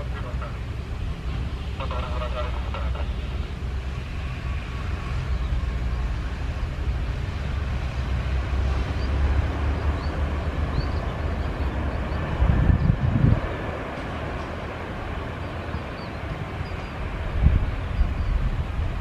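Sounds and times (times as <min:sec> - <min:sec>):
jet airliner rumbling on runway: 0:00.0 - 0:19.0
wind buffeting microphone: 0:03.5 - 0:19.0.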